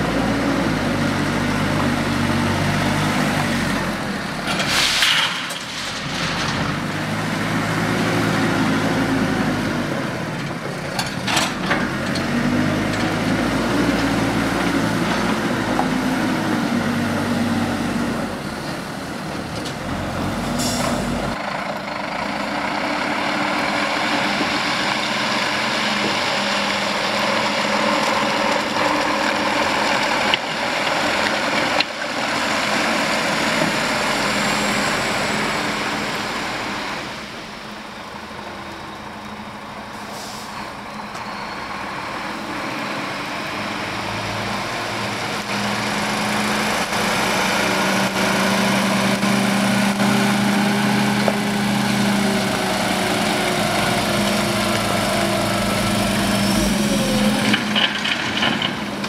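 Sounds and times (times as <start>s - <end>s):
diesel truck engine running: 5.9s - 59.0s.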